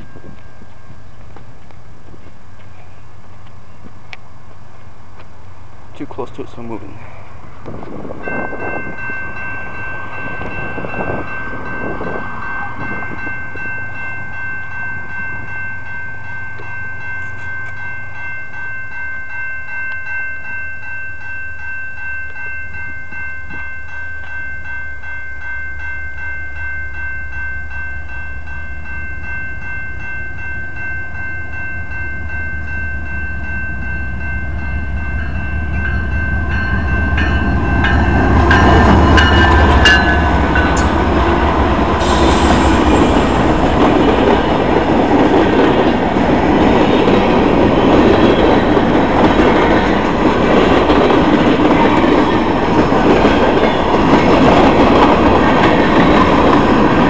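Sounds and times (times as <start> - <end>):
freight train low rumble: 0.0 - 57.0
railroad crossing bell ringing: 0.0 - 57.0.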